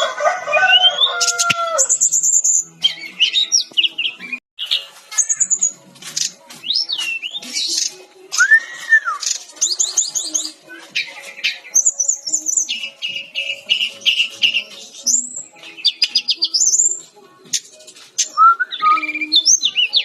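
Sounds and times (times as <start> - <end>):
flycatcher singing: 0.6 - 20.0.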